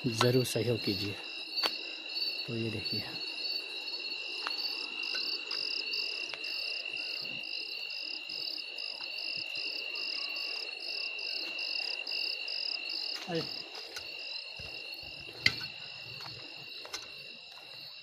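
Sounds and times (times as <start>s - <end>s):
crickets trilling: 0.0s - 18.0s
insects chirping: 0.0s - 18.0s.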